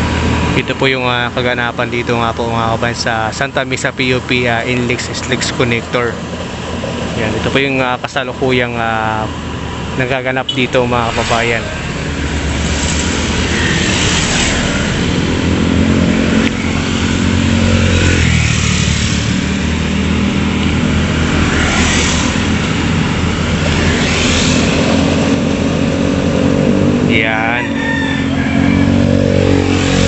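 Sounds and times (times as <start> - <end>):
heavy machinery engines droning: 0.0 - 30.0
motorcycles passing: 0.0 - 30.0.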